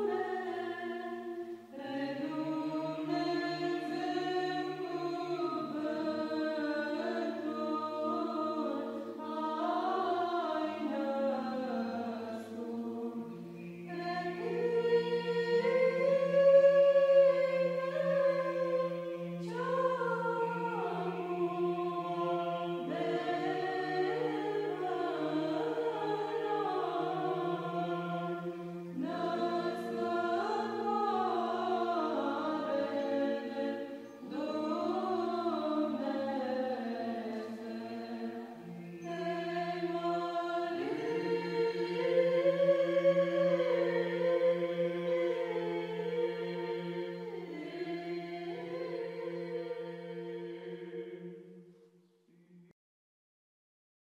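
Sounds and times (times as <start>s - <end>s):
choir chanting: 0.0s - 51.8s.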